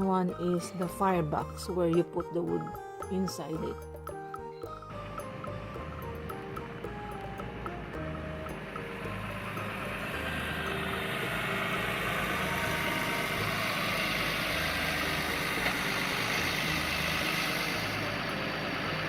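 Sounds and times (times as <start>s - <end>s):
engine throbbing: 0.0s - 19.0s.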